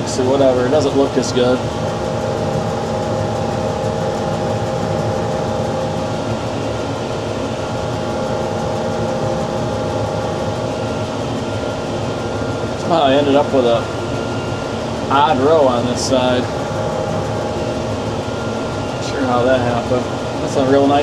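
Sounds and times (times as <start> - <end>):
steady whine: 0.0 - 21.0
tractor engine drone: 0.0 - 21.0.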